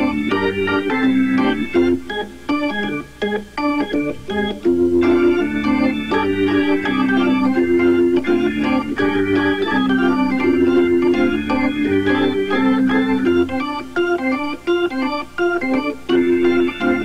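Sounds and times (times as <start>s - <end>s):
organ music: 0.0s - 17.0s.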